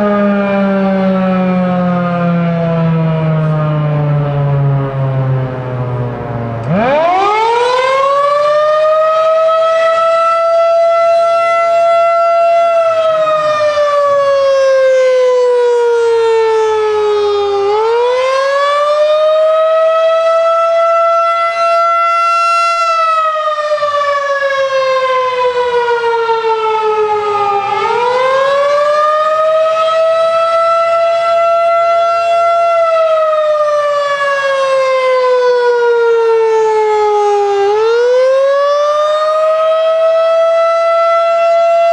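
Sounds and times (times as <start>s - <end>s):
warning siren wailing: 0.0s - 41.9s.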